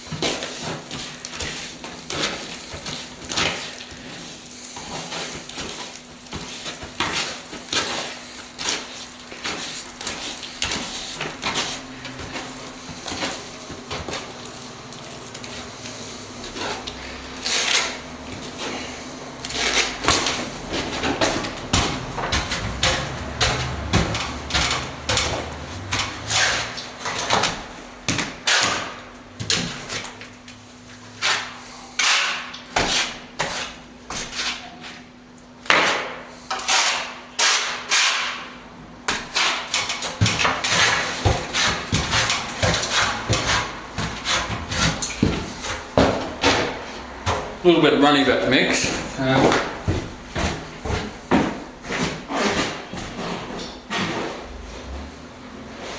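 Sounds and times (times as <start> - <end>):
trowel scraping wet render: 0.2 - 30.2, 31.0 - 35.1, 35.7 - 47.9, 48.6 - 55.1.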